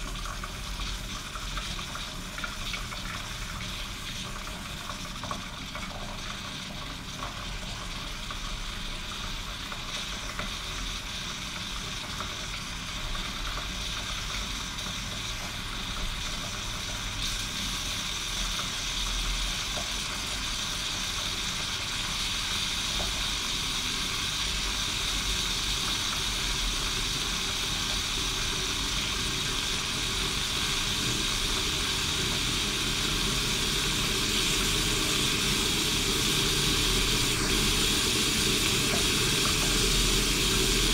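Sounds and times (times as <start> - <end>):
coffee machine hissing and sizzling: 0.0 - 40.9.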